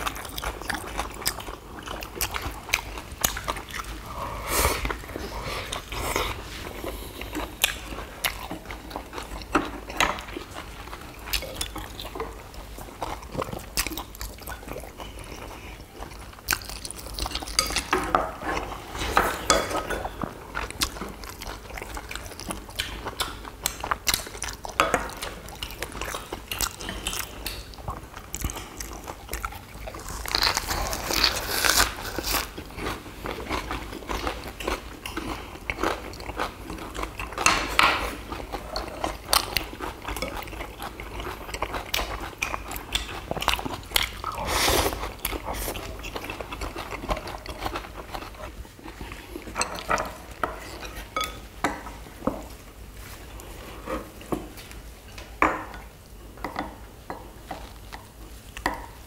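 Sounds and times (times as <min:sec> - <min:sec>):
people chewing crunchy leaves: 0:00.0 - 0:54.9.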